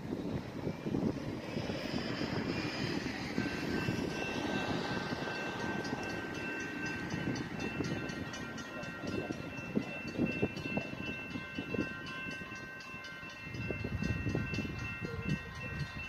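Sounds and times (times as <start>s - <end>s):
distant freight train rumble: 0.0s - 16.0s
steady high tone: 0.6s - 16.0s.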